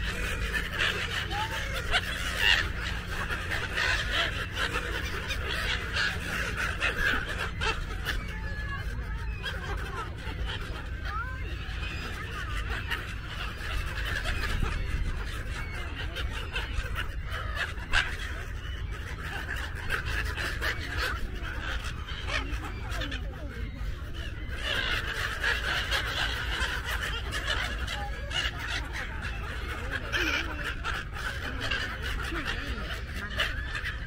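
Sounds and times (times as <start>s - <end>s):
gulls calling: 0.0s - 34.0s.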